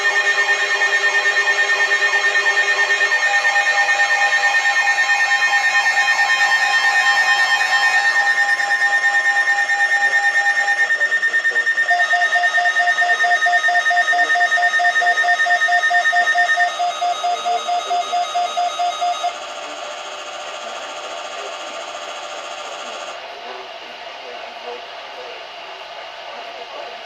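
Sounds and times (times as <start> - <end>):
overlapping electronic alarm beeps: 0.0 - 23.2.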